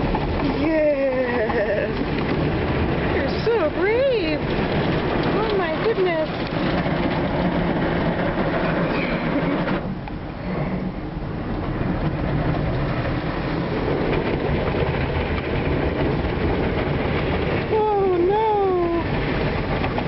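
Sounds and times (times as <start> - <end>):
car wash noise from inside car: 0.0 - 20.0
low rumble: 0.0 - 20.0.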